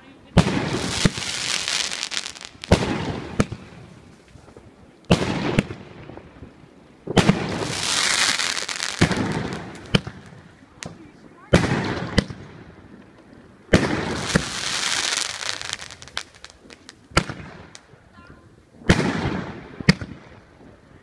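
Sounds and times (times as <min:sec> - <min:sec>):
crackling hiss: 0:00.0 - 0:21.0
fireworks bangs: 0:00.3 - 0:12.7, 0:13.7 - 0:17.9, 0:18.8 - 0:20.4.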